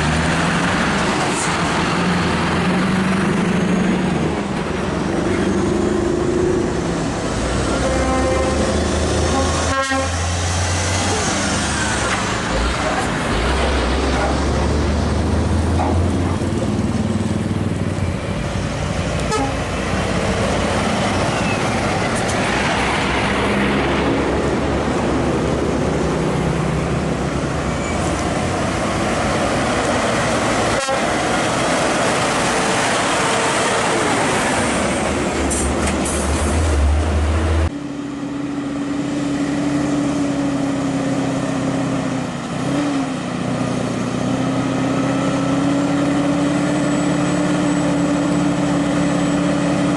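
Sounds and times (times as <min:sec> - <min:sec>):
heavy trucks driving by: 0:00.0 - 0:49.9
steady engine drone: 0:00.0 - 0:49.9.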